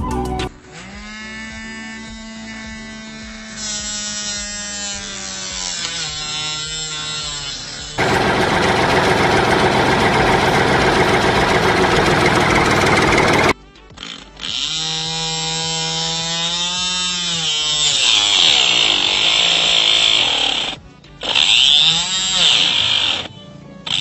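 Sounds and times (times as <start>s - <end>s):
saw blade cutting plant: 2.4s - 13.6s, 14.6s - 23.3s.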